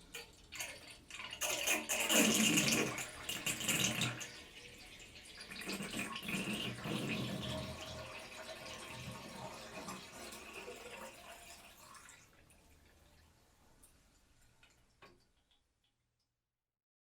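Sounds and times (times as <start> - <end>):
bathtub water gurgling down drain: 0.0 - 15.4.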